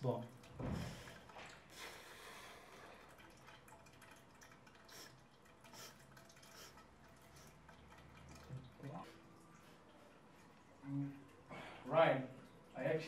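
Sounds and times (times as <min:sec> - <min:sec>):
liquid trickling into urinal: 0:00.0 - 0:13.0
soft drips: 0:00.0 - 0:13.0.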